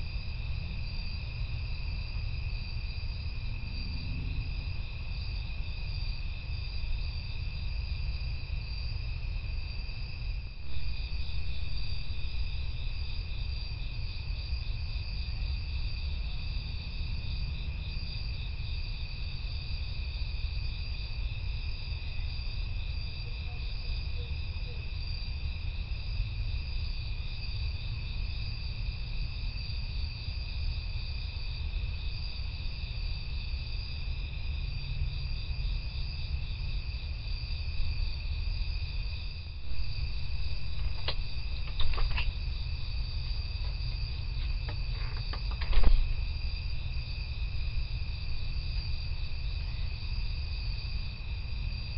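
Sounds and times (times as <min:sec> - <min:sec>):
constant low rumble: 0:00.0 - 0:51.9
crickets and insects trilling: 0:00.0 - 0:51.9.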